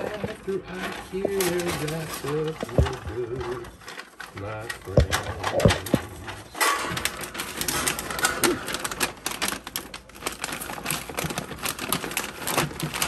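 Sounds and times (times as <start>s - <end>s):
stiff paper crinkling: 0.0s - 13.0s.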